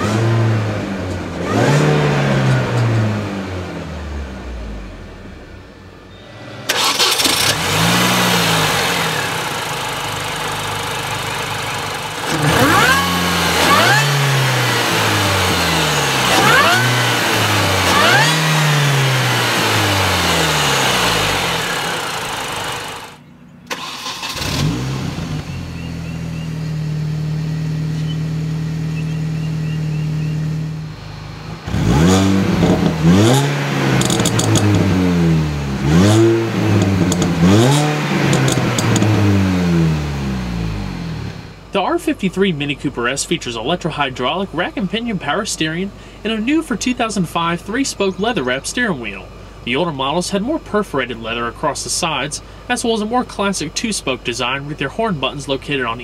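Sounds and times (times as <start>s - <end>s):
car engine revving: 0.0s - 50.0s
supercharger whir: 0.0s - 52.4s.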